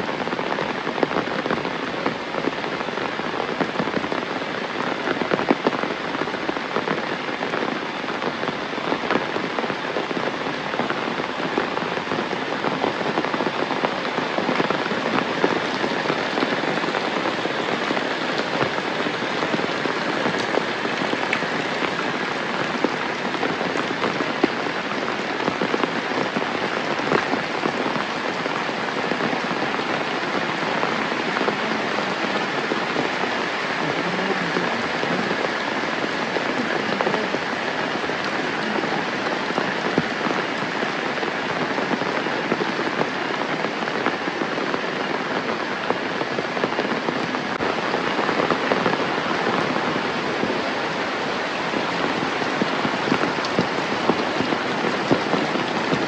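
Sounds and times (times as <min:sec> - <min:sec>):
heavy rain hiss: 0:00.0 - 0:56.0
sharp raindrop impacts: 0:00.0 - 0:56.0.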